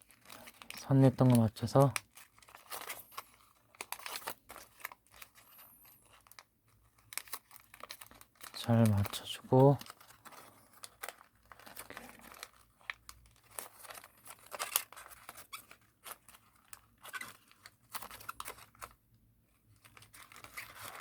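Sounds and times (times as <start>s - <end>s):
paper crinkling and rustling: 0.0s - 21.0s.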